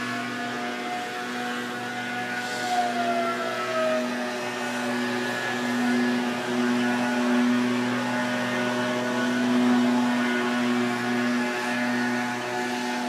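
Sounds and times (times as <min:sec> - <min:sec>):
warning siren steady tone: 0:00.0 - 0:13.0.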